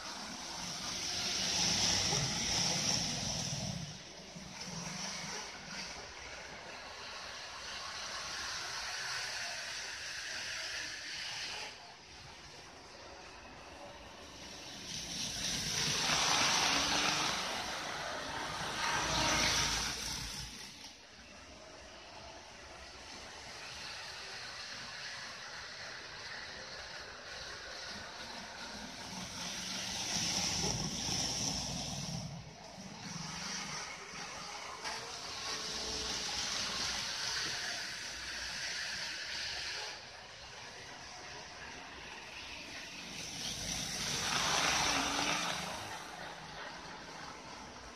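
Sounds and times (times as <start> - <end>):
model train wheels rattling: 0.0 - 47.9.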